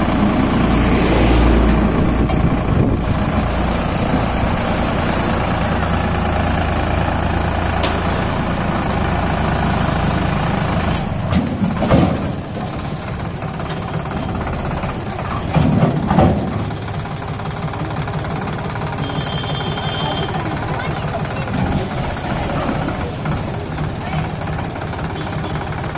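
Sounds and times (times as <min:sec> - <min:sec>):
tractor diesel engine idling: 0:00.0 - 0:25.9.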